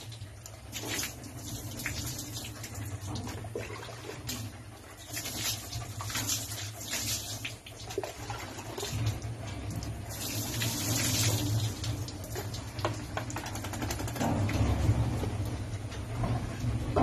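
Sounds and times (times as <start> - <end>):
water splashing over dog's coat: 0.0 - 15.0.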